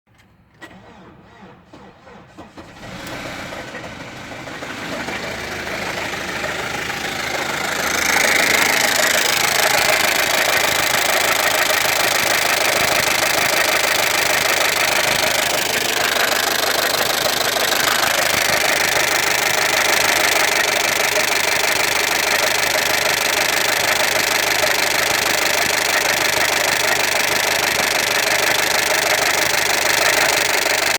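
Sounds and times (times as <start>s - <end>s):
engine running with knock: 2.9s - 30.9s.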